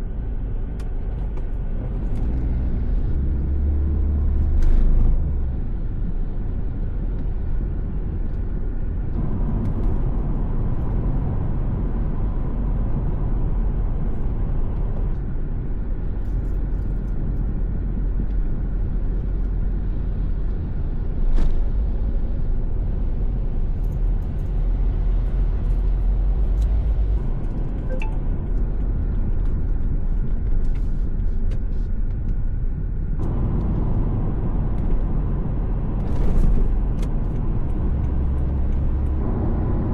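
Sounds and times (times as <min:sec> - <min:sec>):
car driving at speed: 0:00.0 - 0:39.9.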